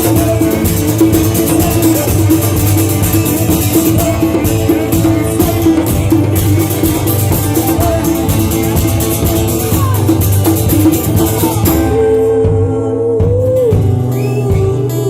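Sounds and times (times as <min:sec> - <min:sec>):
drum kit: 0:00.0 - 0:15.0
guitar: 0:00.0 - 0:15.0.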